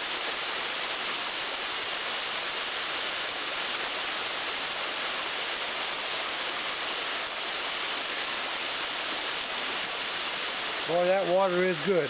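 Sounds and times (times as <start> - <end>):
water pouring over waterfall: 0.0 - 12.0.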